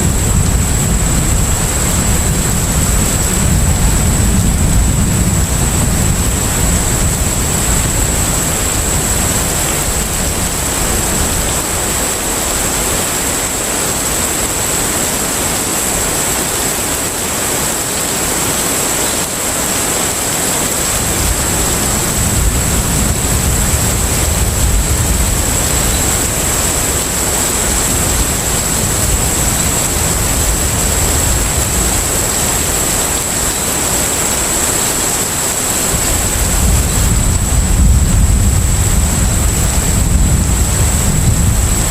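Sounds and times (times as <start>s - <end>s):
rushing wind and water: 0.0s - 41.9s.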